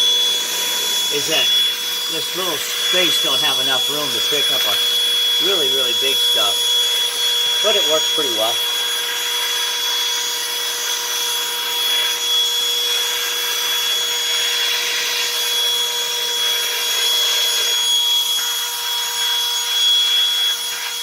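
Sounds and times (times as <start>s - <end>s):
cordless vacuum motor whine: 0.0s - 21.0s.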